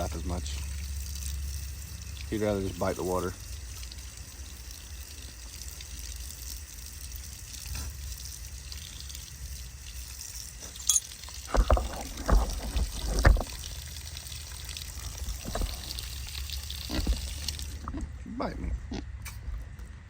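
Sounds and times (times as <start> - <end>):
water hissing and trickling: 0.0 - 17.9.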